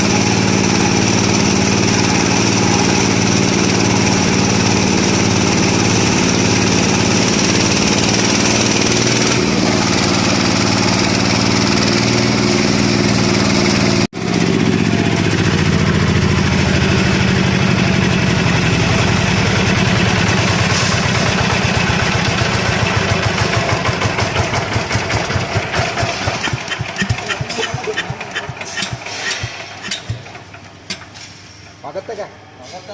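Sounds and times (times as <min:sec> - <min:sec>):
machine engine running: 0:00.0 - 0:31.3.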